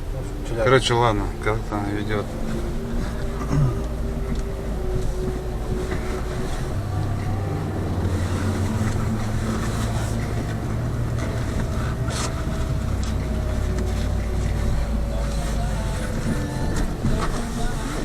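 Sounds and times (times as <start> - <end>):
car engine drone: 0.0 - 18.0
tyre and road noise: 0.0 - 18.0.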